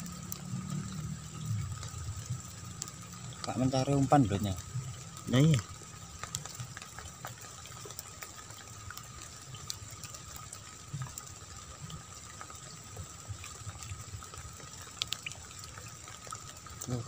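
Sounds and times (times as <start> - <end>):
rain drops pattering on mud: 0.0 - 17.0.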